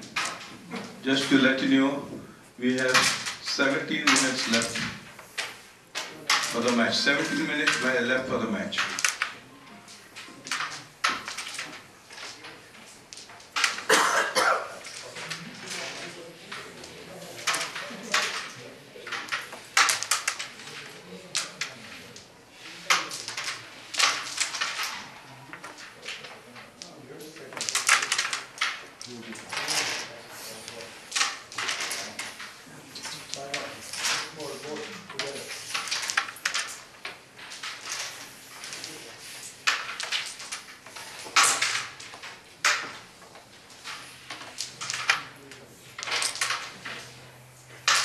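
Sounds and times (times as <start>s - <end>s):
carrom pieces clacking: 0.0s - 48.0s.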